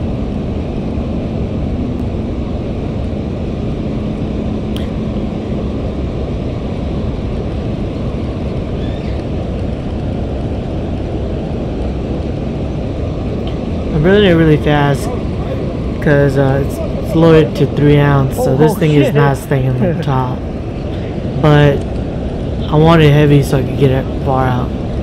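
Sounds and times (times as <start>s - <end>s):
water roaring through spillway: 0.0s - 25.0s.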